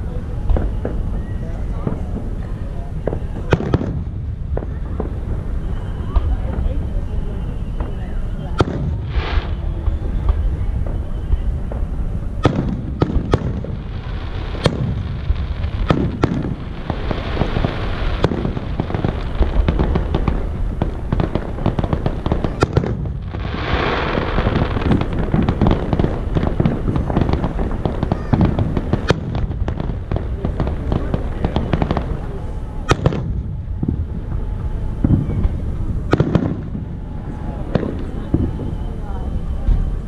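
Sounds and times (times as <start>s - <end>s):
fireworks bursting with sharp bangs: 0.0s - 40.0s
fireworks crackling hiss: 0.0s - 40.0s
low rumble of booms: 0.0s - 40.0s.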